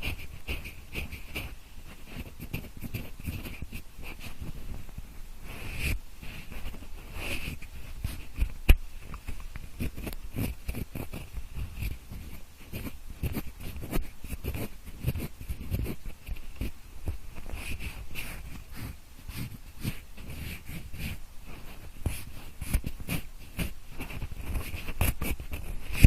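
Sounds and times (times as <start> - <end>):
pencil scratching and tapping: 0.0 - 26.0.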